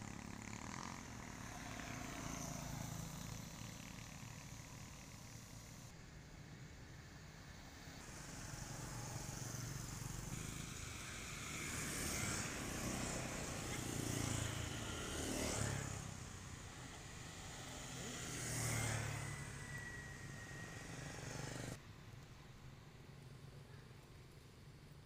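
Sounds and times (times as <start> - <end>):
vehicles passing on road: 0.0 - 6.0, 6.6 - 21.9.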